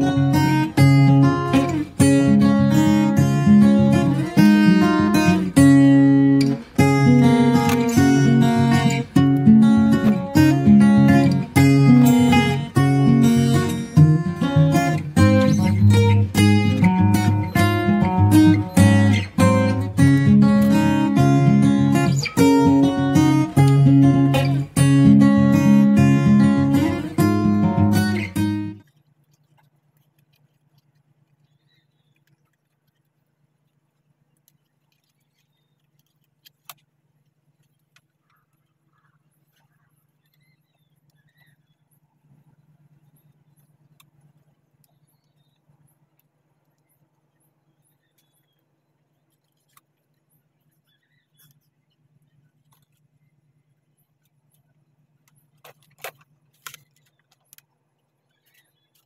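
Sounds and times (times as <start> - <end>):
faint low hum: 0.0 - 59.0.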